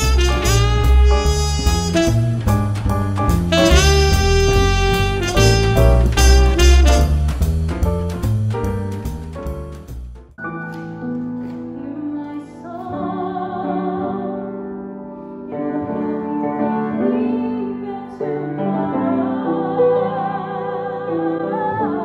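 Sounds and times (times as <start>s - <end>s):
piano accompaniment: 0.0s - 22.0s.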